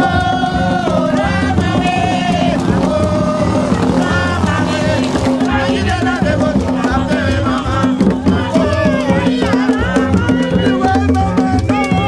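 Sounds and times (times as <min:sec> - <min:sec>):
hand drums: 0:00.0 - 0:12.0
people singing: 0:00.0 - 0:12.0.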